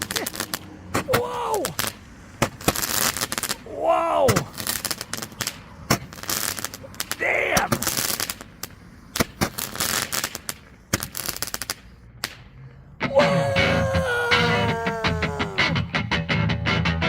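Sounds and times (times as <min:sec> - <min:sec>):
fireworks crackling: 0:00.0 - 0:15.7.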